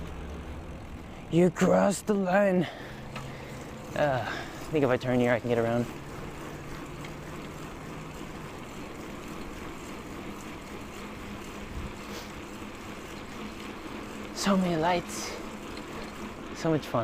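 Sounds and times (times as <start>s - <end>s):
bicycle rolling noise: 0.0s - 17.0s.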